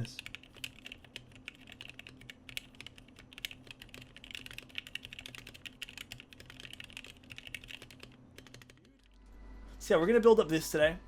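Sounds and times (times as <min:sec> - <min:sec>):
mechanical keyboard clacks: 0:00.1 - 0:09.1.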